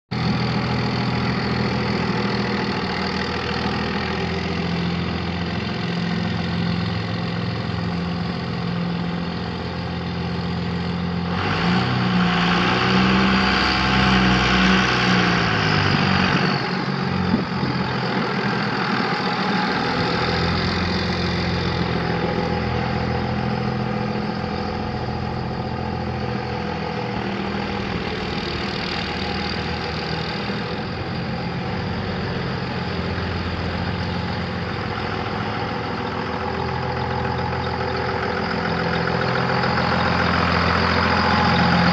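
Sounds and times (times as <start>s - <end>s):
diesel engine idling: 0.1s - 41.9s
diesel engine revving: 0.1s - 41.9s.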